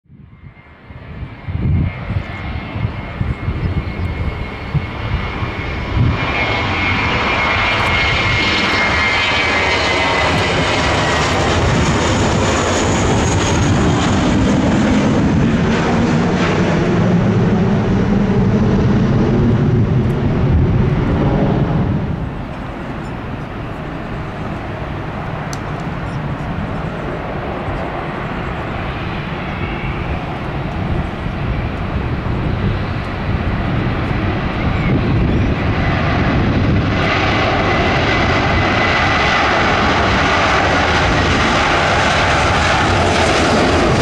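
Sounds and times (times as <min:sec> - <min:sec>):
deep jet engine rumble: 0:00.1 - 0:44.0
jet engine fan whine: 0:00.1 - 0:44.0.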